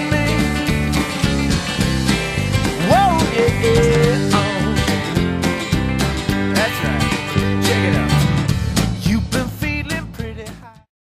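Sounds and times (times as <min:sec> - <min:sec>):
country song: 0:00.0 - 0:10.9.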